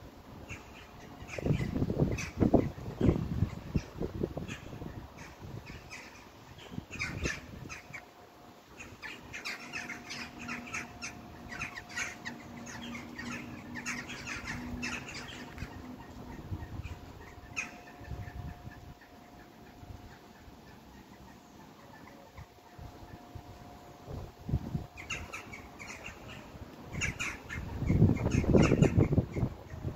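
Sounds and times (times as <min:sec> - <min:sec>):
flock of birds squawking: 0:00.5 - 0:08.1, 0:08.7 - 0:23.8, 0:25.0 - 0:29.9.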